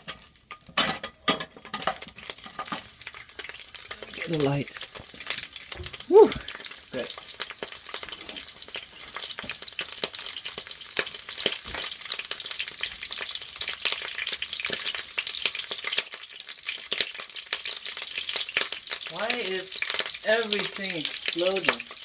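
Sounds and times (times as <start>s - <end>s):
food sizzling in hot oil: 0.0s - 22.0s
oil crackling and popping: 0.0s - 22.0s.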